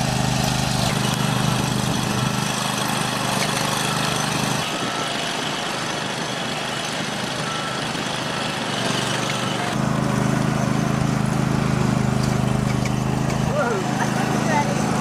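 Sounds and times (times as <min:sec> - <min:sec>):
heavy machinery diesel engines running: 0:00.0 - 0:15.0.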